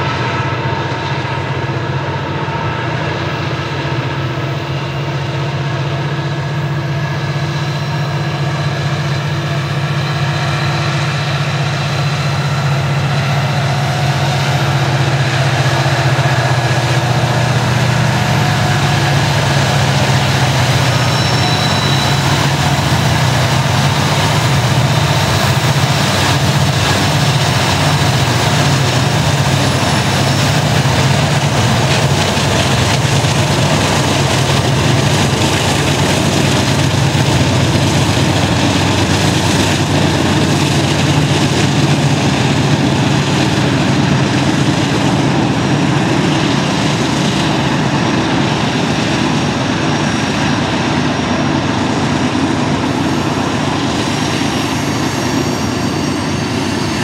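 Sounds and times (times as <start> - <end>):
diesel locomotive engine drone: 0.0 - 57.0
train wheels rumbling on rail: 0.0 - 57.0.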